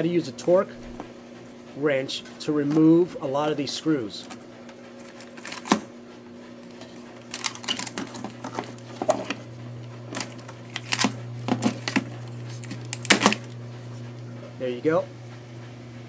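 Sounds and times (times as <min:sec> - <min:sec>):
clothes dryer humming: 0:00.0 - 0:16.0.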